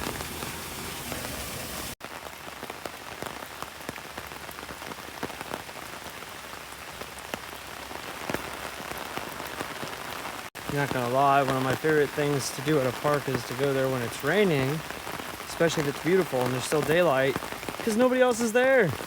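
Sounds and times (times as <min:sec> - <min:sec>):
rain falling: 0:00.0 - 0:19.0
raindrops ticking: 0:00.0 - 0:19.0.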